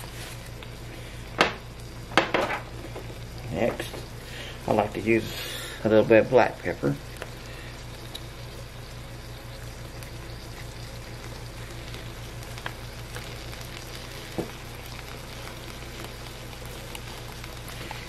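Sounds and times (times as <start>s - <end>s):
meat sizzling on a griddle: 0.0s - 18.0s.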